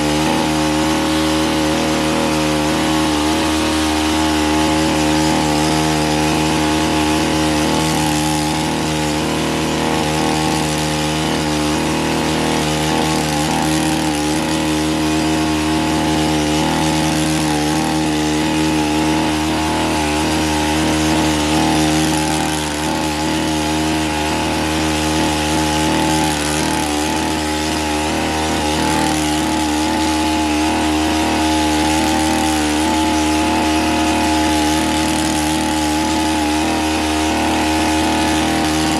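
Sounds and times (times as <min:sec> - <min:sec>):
hedge trimmer running: 0:00.0 - 0:38.9.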